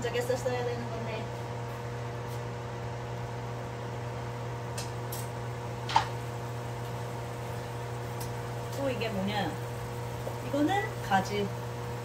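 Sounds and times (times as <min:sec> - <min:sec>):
kitchen fan humming: 0:00.0 - 0:12.0.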